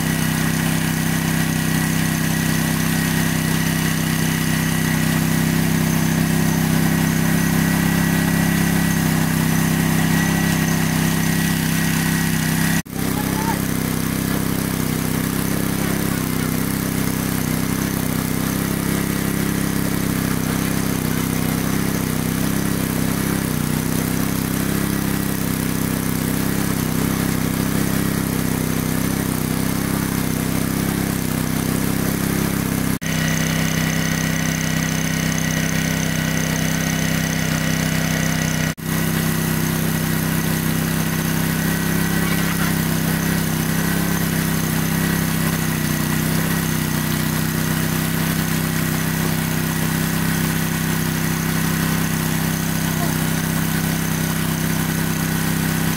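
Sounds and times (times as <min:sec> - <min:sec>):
water pump engine running: 0:00.0 - 0:55.9.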